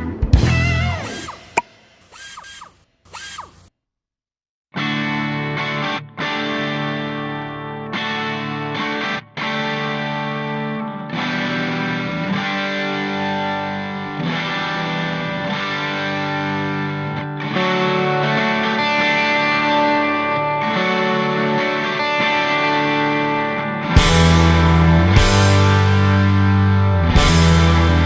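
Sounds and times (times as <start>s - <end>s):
distorted electric guitar chords: 0.0s - 1.8s, 4.8s - 28.0s.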